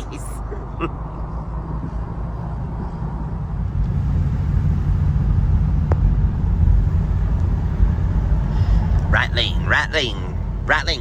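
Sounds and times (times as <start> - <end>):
car cabin road and engine noise: 0.0 - 11.0.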